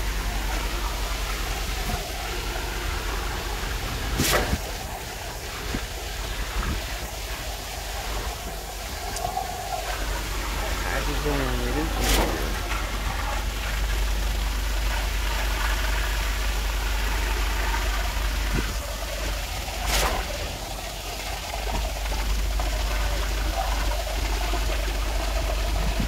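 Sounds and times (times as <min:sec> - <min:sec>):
pump engine rumbling: 0:00.0 - 0:26.0.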